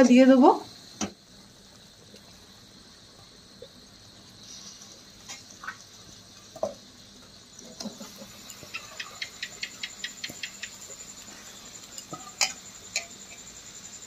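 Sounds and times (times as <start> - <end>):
paste sizzling in oil: 0.7 - 14.0.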